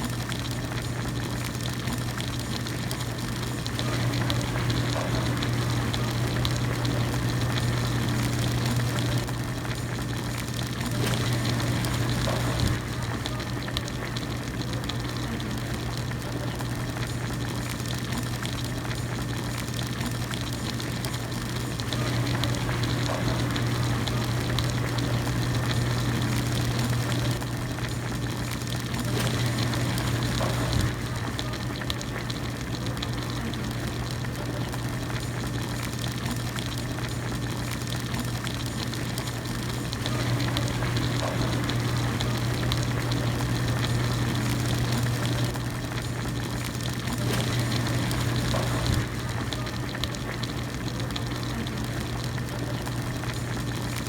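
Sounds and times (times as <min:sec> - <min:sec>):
broth boiling and bubbling: 0:00.0 - 0:54.0
constant low hum: 0:00.0 - 0:54.0.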